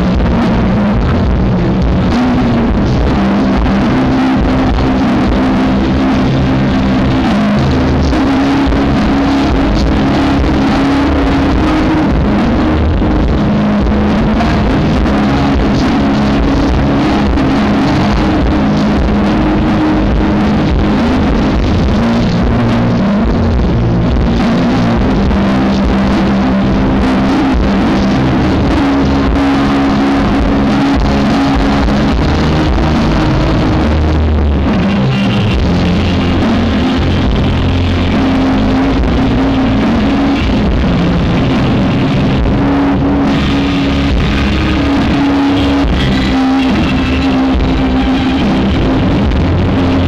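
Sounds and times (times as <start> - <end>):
distorted live rock band: 0.0 - 50.0.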